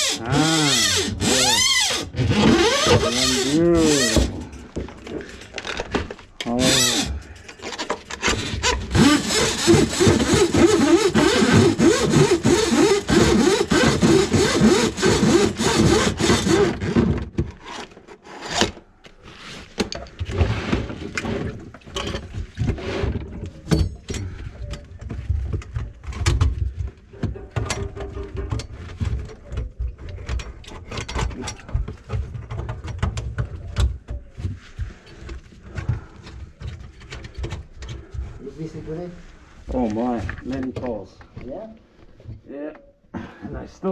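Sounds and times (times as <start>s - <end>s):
clanks and scrapes: 0.8s - 40.9s.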